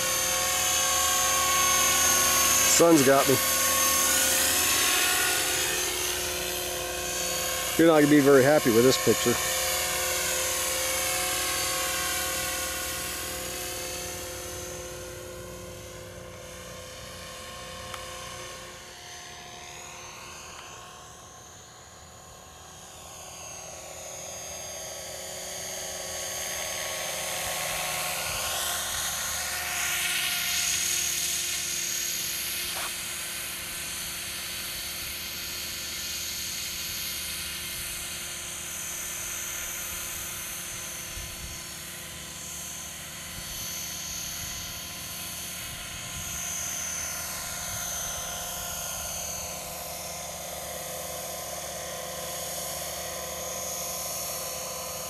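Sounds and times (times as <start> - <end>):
model helicopter rotor whine: 0.0 - 55.0.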